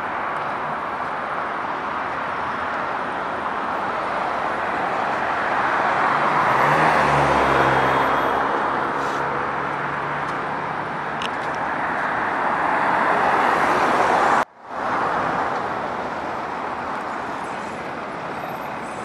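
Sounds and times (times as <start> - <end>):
passing cars rushing: 0.0 - 19.0.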